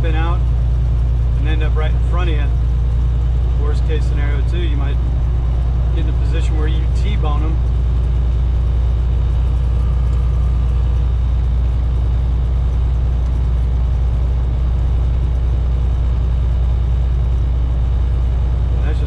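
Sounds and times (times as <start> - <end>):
road noise: 0.0 - 19.0
truck diesel engine droning: 0.0 - 19.0.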